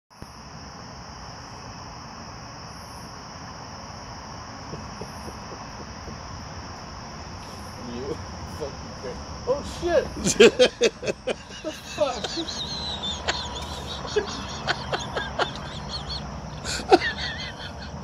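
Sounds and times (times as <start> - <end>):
crickets chirring: 0.1 - 18.0
low background hiss: 0.3 - 18.0.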